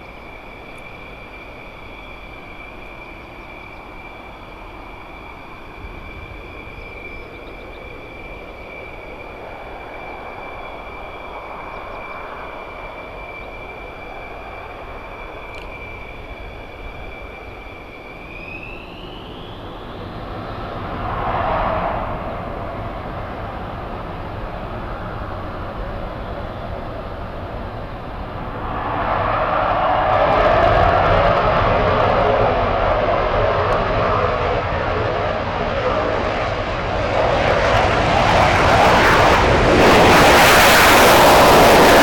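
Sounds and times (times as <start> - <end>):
jet engine whine and roar: 0.0 - 42.0.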